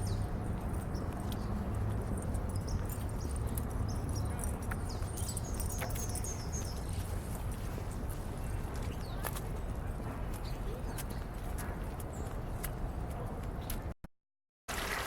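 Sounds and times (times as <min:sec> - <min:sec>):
horse hooves clopping: 0:00.0 - 0:13.2.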